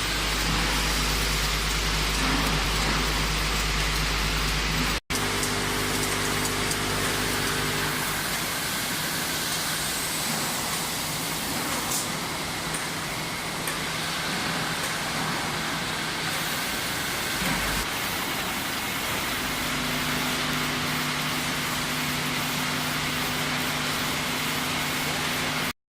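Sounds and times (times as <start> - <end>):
labelling machine running: 0.0 - 25.7.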